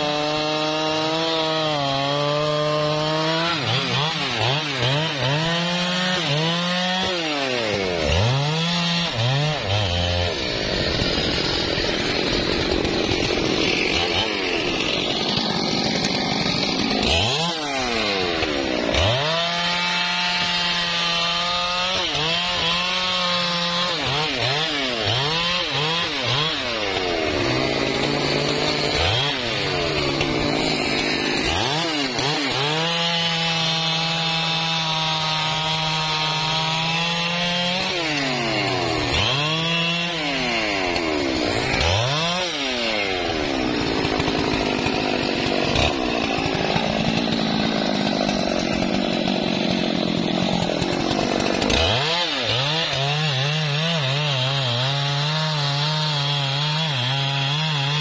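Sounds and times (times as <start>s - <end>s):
chainsaw cutting log at full throttle: 0.0s - 58.0s.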